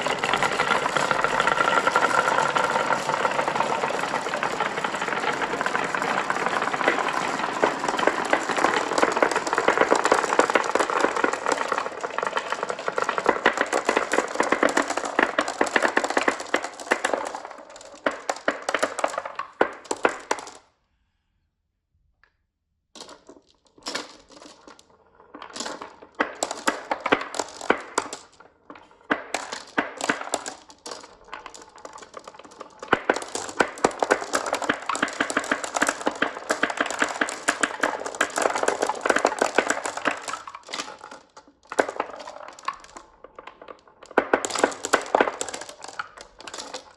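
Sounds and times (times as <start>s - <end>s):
marbles clattering down track: 0.0s - 20.7s, 23.0s - 46.9s.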